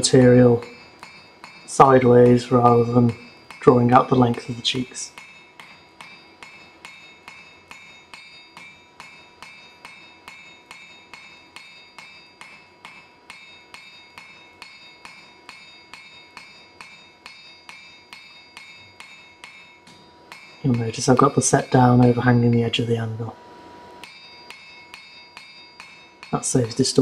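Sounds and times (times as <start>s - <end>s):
hammer striking steel on anvil: 0.0s - 27.0s.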